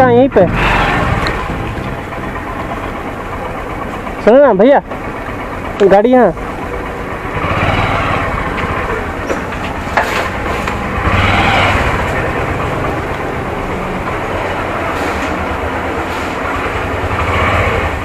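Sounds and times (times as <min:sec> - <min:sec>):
motorcycle engine idling: 0:00.0 - 0:18.0
vehicle noise: 0:00.0 - 0:18.0.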